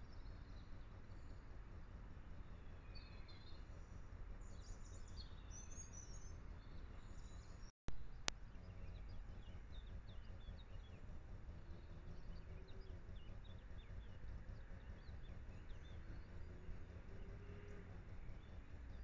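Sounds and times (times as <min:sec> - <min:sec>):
small birds chirping: 0:02.2 - 0:19.0.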